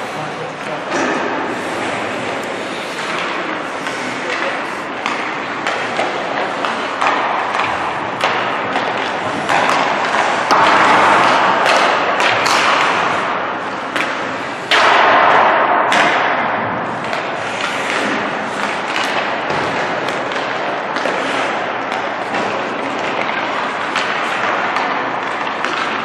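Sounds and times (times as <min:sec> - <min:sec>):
hockey pucks hitting boards: 0:00.8 - 0:26.0.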